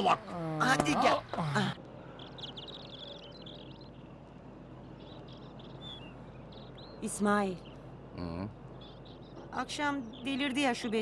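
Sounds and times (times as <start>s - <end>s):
faint low hum: 0.0s - 11.0s
small birds chirping: 0.0s - 11.0s.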